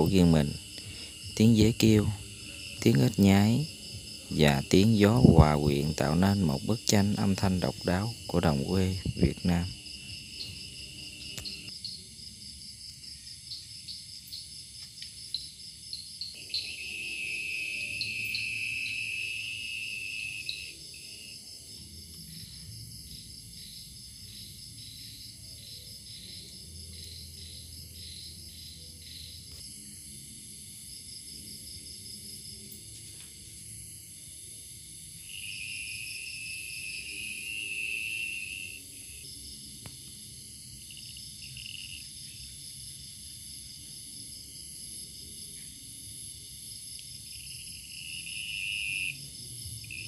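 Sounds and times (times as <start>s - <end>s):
crickets trilling: 0.0s - 50.0s
insects chirping rapidly: 0.0s - 50.0s
louder lower insect trill: 0.0s - 50.0s.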